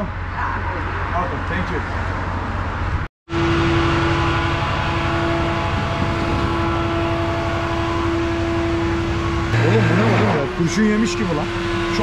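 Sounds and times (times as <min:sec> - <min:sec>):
constant high whine: 0:00.0 - 0:12.0
tow truck engine hum: 0:00.0 - 0:12.0.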